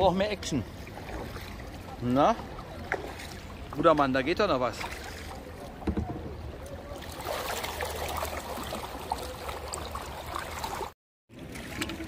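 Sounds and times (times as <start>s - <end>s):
water splashing off paddles: 0.6s - 12.0s.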